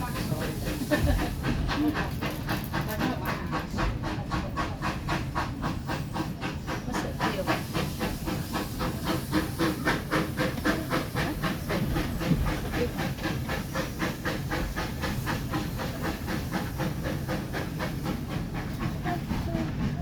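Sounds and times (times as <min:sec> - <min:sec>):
steam hissing: 0:00.0 - 0:20.0
steam locomotive chuffing: 0:00.0 - 0:20.0.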